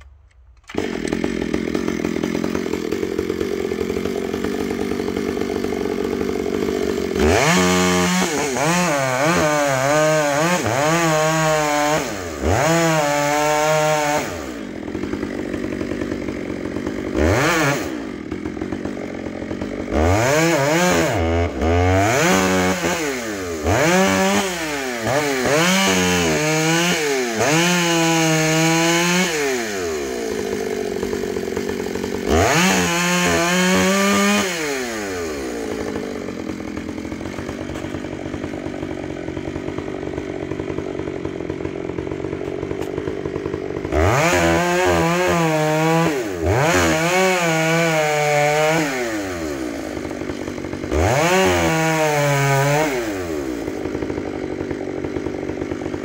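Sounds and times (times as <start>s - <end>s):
chainsaw cutting and idling: 0.0s - 56.0s.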